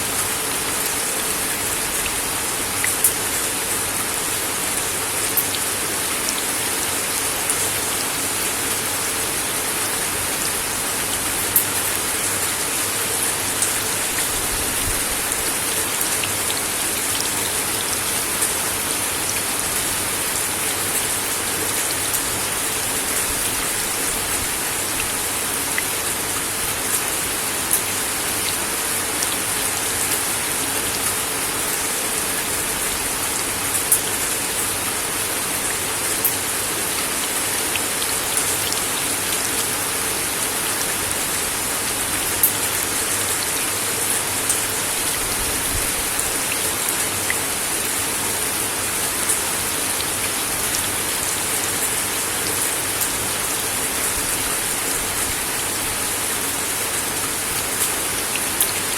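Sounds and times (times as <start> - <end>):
rain on a wooden deck: 0.0 - 58.9.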